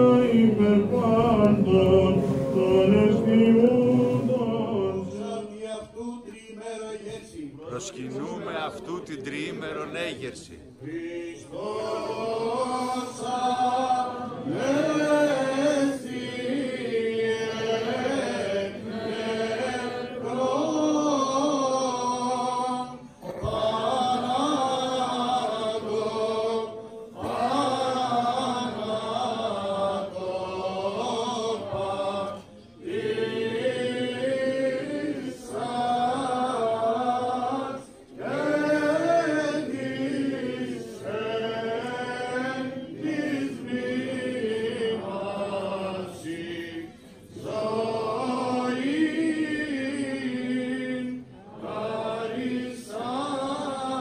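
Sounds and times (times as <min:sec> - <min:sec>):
chanters singing a hymn: 0:00.0 - 0:54.0.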